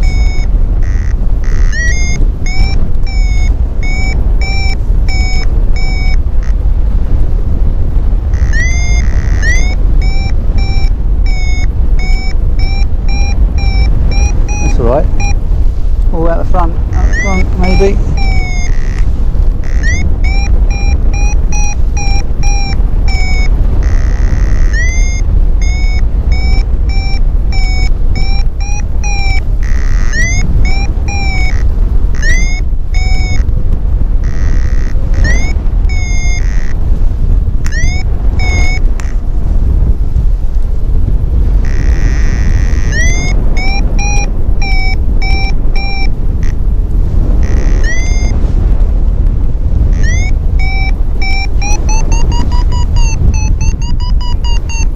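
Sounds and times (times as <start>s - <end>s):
variometer beeping rapidly: 0.0s - 6.8s, 8.2s - 15.5s, 16.2s - 39.9s, 41.3s - 48.9s, 49.7s - 54.9s
variometer steady tone: 0.0s - 54.9s
wind rumble on microphone: 0.0s - 54.9s.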